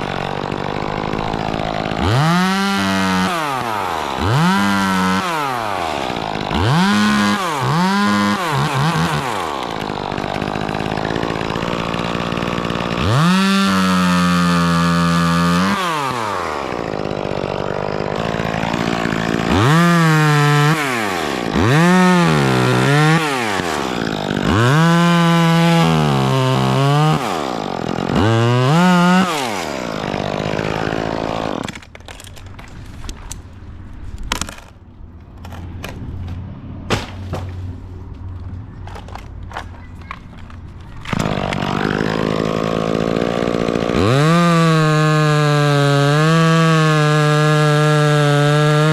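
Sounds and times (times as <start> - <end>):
chainsaw revving: 0.0 - 32.2, 40.9 - 48.9.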